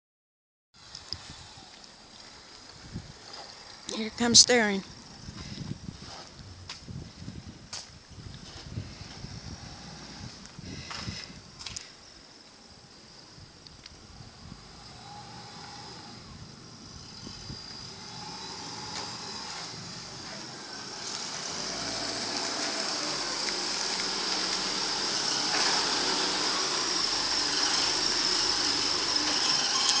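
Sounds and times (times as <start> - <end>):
car engine and tyres in snow: 0.8 - 30.0
high steady hiss: 0.8 - 30.0.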